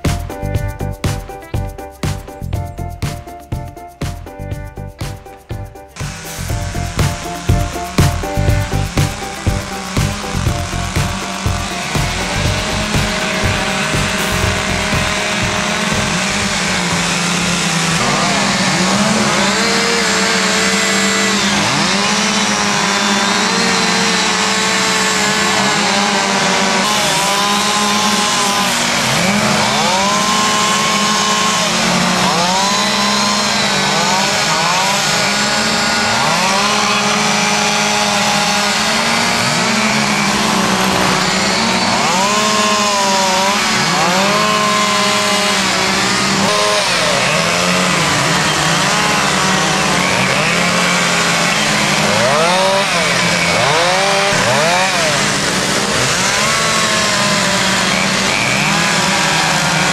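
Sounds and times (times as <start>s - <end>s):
chainsaws revving cutting wood: 4.9s - 59.9s.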